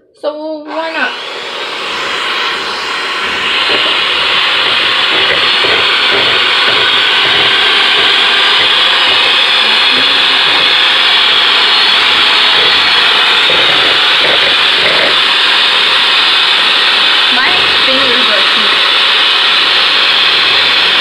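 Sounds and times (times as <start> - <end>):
electric hand mixer whirring: 0.7 - 21.0.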